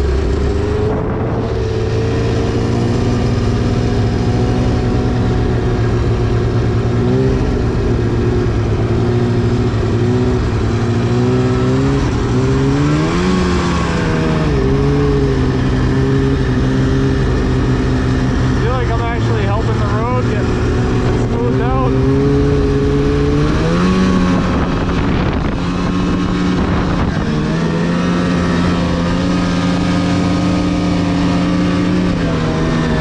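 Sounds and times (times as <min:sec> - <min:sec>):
two-stroke engine running: 0:00.0 - 0:33.0.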